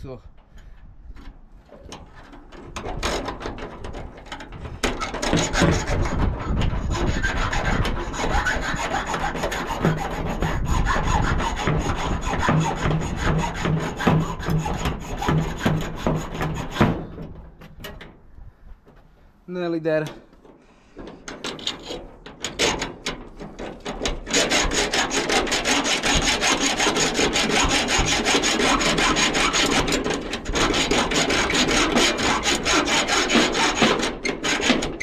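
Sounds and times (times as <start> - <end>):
hacksaw rasping on metal: 2.8 - 17.3, 21.0 - 35.0.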